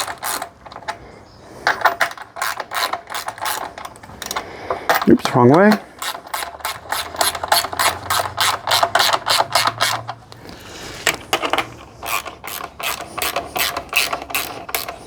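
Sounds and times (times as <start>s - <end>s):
hand ratchet clicking: 0.0s - 1.0s, 1.6s - 10.2s, 11.0s - 15.0s.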